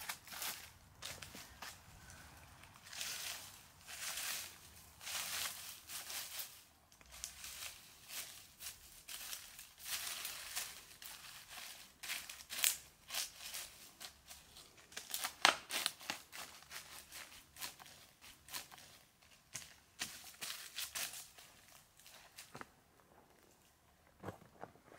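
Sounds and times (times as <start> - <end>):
dry leaves crackling and rustling: 0.0 - 22.5
footsteps crunching on dry leaves: 0.0 - 22.5.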